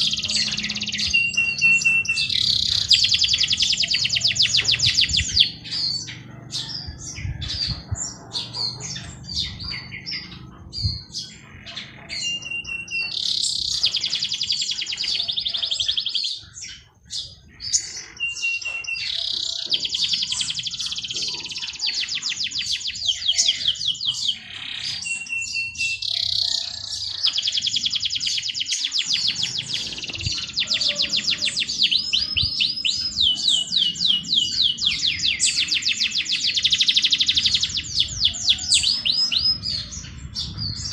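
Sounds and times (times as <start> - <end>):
songbirds trilling and chirping: 0.0 - 40.9.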